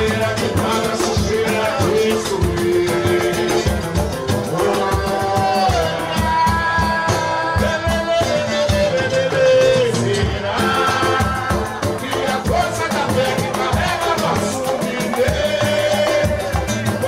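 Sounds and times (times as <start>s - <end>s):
man singing: 0.0s - 17.0s
samba band playing: 0.0s - 17.0s.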